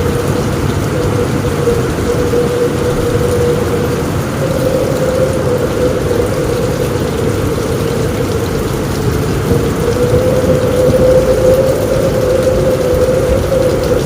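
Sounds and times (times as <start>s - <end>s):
heavy rain on a roof: 0.0s - 14.0s
strong wind howling: 0.0s - 14.0s.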